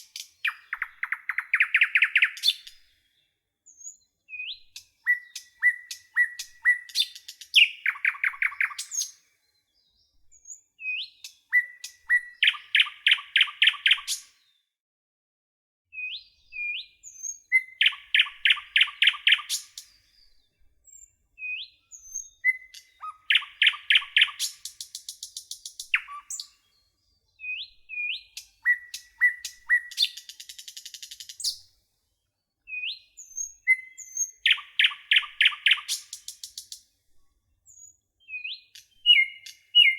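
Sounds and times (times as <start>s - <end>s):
songbird chirps and trill: 0.0s - 14.7s, 15.9s - 39.9s.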